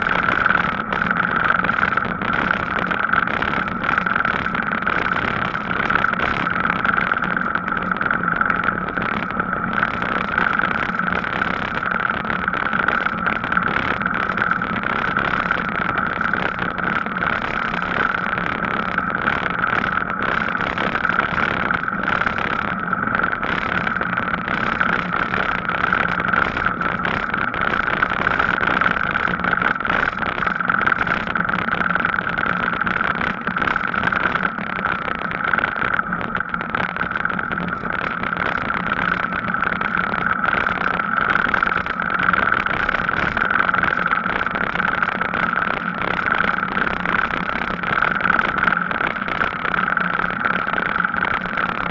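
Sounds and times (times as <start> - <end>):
e-bike motor hum: 0.0 - 51.9
e-bike tyre and wind noise: 0.0 - 51.9.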